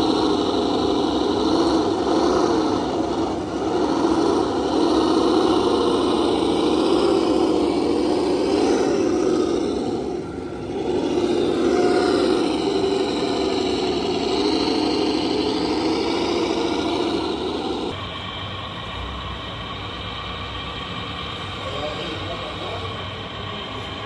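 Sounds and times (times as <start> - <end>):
model truck engine: 0.0 - 24.0.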